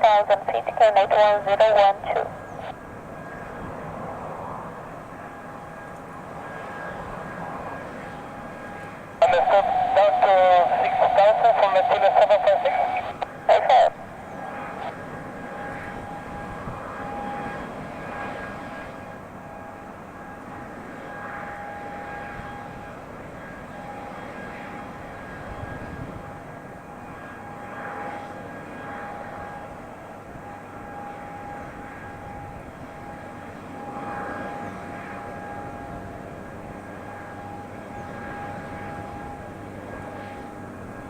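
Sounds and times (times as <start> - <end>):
jet airliner engines running: 0.0 - 41.0.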